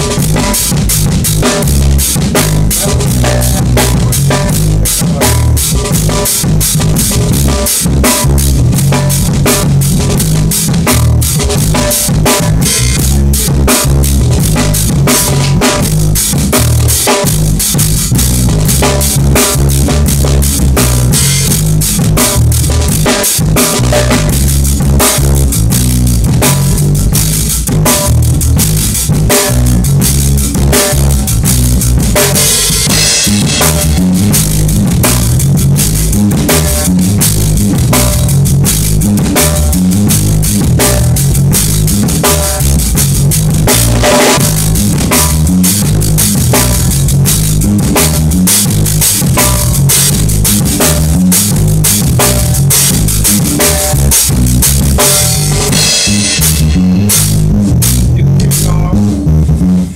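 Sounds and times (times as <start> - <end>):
bass line: 0.0 - 59.9
drum kit playing: 0.0 - 59.9.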